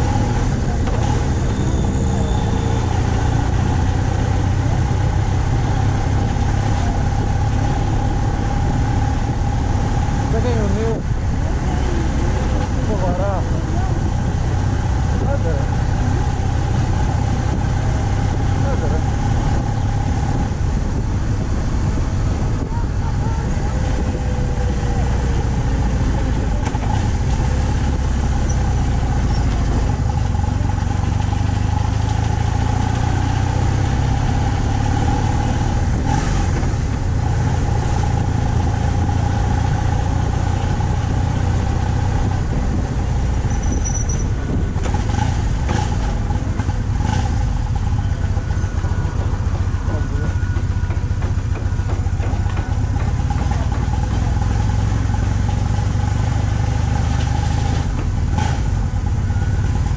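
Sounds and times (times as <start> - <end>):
motorcycle engine running: 0.0 - 59.9
wind rumble on microphone: 3.1 - 34.3, 35.3 - 54.3.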